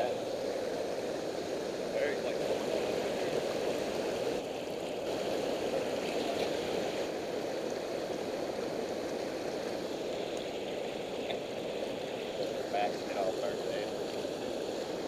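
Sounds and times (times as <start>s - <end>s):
water rushing over dam: 0.0s - 15.0s.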